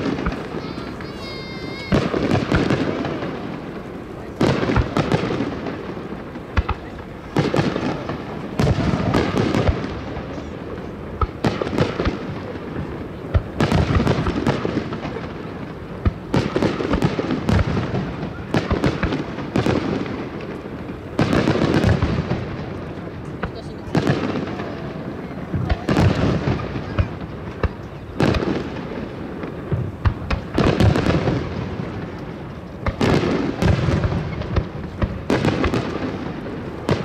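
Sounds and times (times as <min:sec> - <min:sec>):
firework crackling: 0:00.0 - 0:37.0
firework shells booming: 0:00.0 - 0:37.0.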